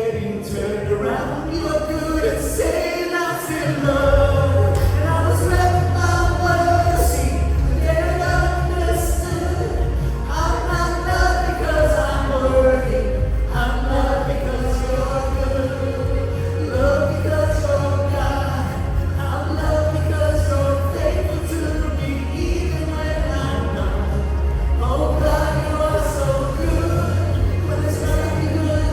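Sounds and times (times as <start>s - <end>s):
steady bass: 0.0s - 28.9s
voices singing: 0.0s - 28.9s
worship band playing: 0.0s - 28.9s.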